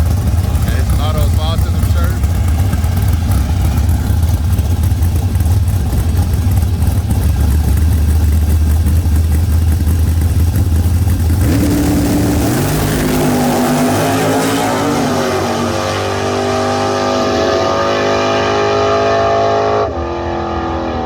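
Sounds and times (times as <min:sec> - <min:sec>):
drag racing car engine revving: 0:00.0 - 0:21.0.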